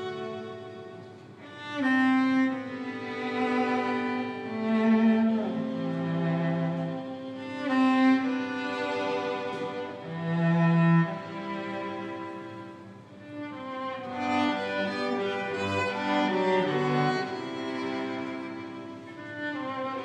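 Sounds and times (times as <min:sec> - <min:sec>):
bowed strings: 0:00.0 - 0:20.0.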